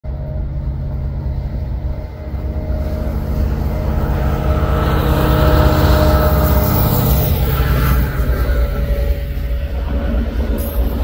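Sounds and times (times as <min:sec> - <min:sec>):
diesel locomotive engines droning: 0:00.0 - 0:11.0
high-pitched whine: 0:00.1 - 0:11.0.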